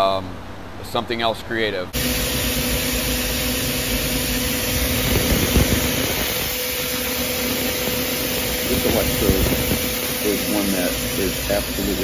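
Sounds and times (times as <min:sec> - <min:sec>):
milling machine running: 0:02.0 - 0:12.0.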